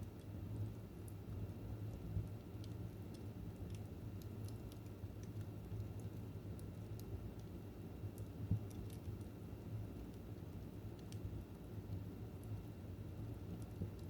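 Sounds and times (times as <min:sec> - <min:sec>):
fire crackling and popping: 0:01.0 - 0:14.0.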